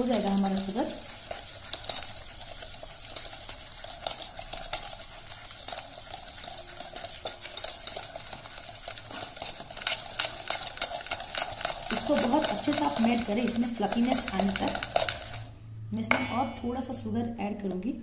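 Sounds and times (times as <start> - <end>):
whisk clicking against bowl: 0.0 - 15.5.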